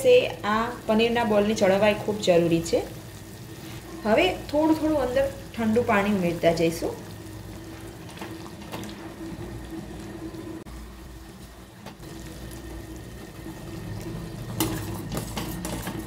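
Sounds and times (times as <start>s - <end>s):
syrup boiling in a pot: 0.0s - 16.0s.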